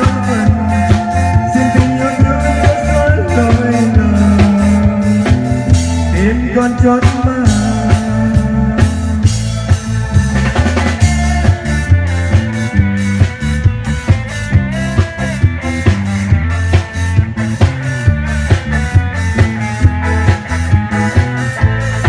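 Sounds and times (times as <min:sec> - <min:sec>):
band playing worship song: 0:00.0 - 0:22.0.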